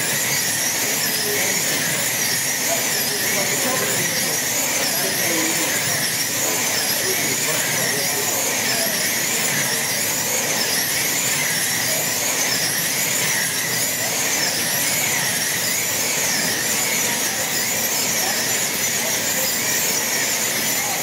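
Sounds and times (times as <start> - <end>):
slot car motors whining: 0.0 - 21.0.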